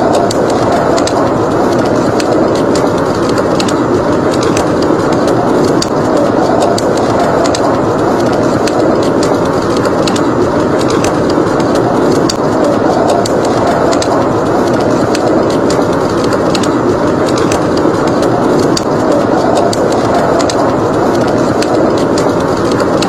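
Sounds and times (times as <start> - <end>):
rushing blizzard wind: 0.0 - 23.0
wood fire crackling: 0.0 - 23.0.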